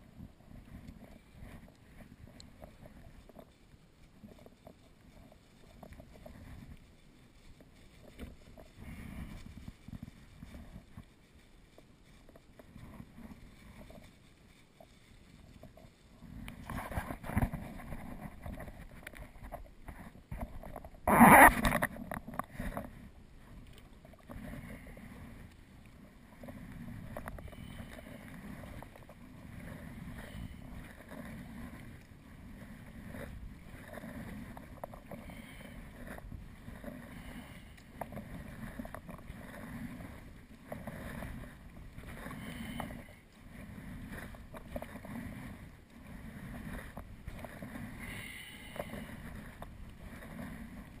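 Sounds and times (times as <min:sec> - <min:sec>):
kayak paddle strokes: 0:00.0 - 0:51.0.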